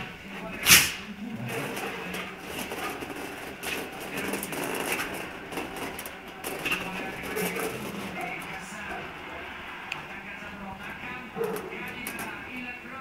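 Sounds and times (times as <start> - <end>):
dogs scuffling on fabric: 0.3 - 12.5.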